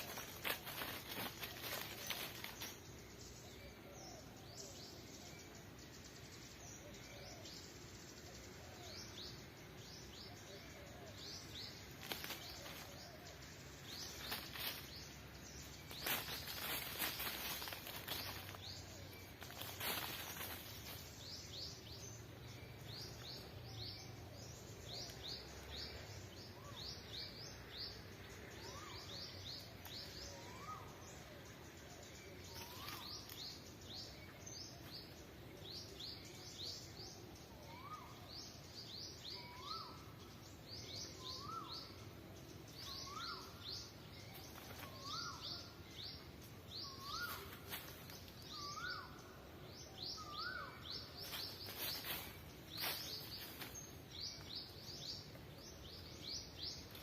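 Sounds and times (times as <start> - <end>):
birds chirping: 0.0 - 57.0
faint outdoor hum: 0.0 - 57.0.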